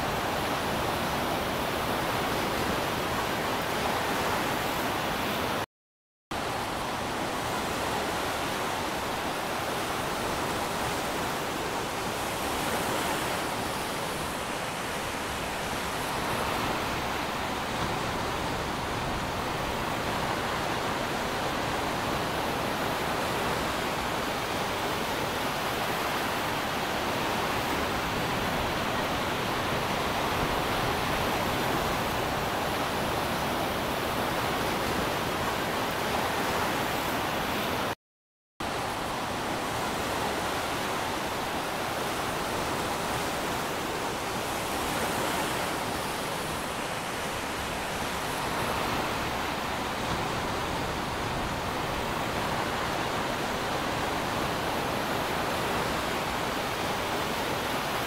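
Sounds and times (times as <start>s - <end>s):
ocean waves washing: 0.0s - 5.6s, 6.4s - 38.0s, 38.6s - 58.0s.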